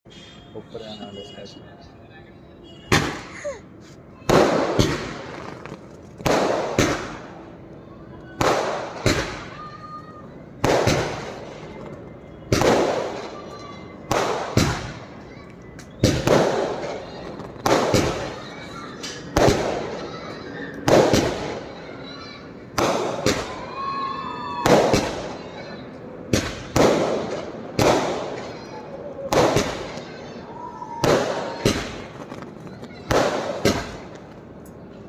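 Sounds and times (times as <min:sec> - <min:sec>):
fireworks bangs: 0:02.7 - 0:07.6, 0:08.2 - 0:34.5.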